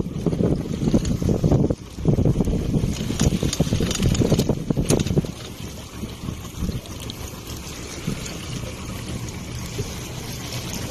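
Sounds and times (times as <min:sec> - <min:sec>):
sea water splashing: 0:00.0 - 0:10.9.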